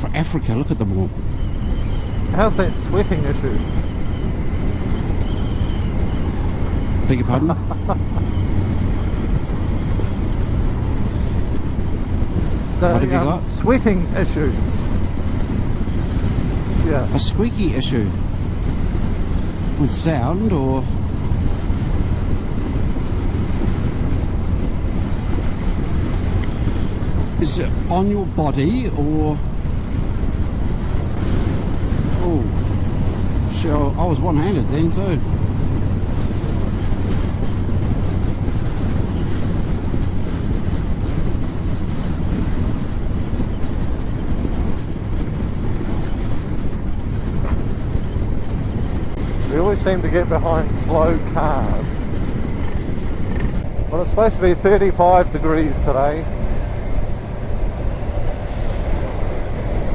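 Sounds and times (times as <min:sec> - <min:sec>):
motorcycle low rumble: 0:00.0 - 0:59.9
road noise: 0:00.0 - 0:59.9
wind rush on microphone: 0:00.0 - 0:59.9.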